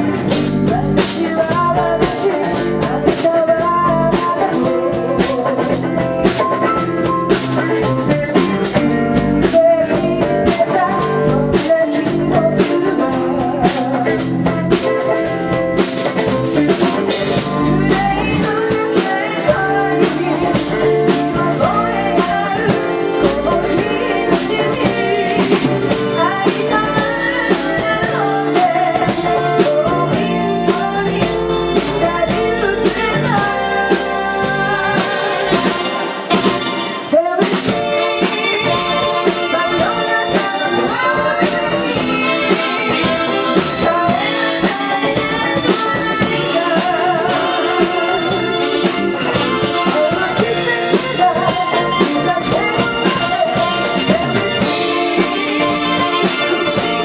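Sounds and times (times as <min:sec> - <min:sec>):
drum kit beat: 0:00.0 - 0:57.0
live band playing pop song: 0:00.0 - 0:57.0
person singing: 0:00.0 - 0:57.0.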